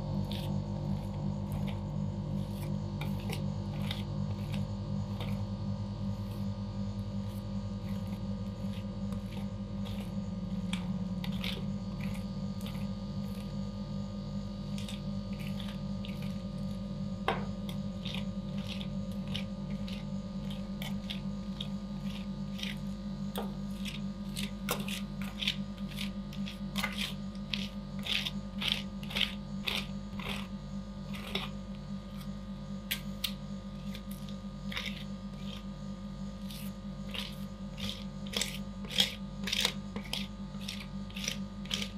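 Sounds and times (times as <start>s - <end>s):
steady low machine hum: 0.0s - 41.9s.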